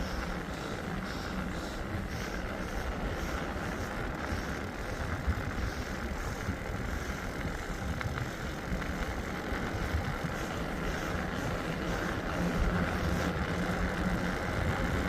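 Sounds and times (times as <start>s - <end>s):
bicycle road and wind noise: 0.0s - 15.0s.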